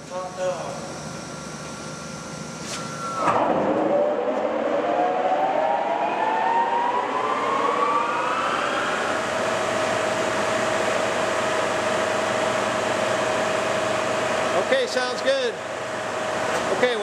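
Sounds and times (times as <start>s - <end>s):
lathe gear whine: 0.7s - 15.0s.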